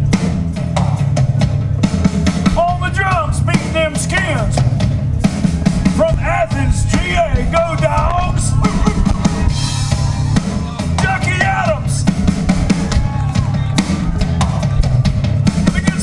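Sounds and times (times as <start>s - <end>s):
live rock band playing: 0.0s - 16.0s
kick and snare drum beat: 1.9s - 16.0s.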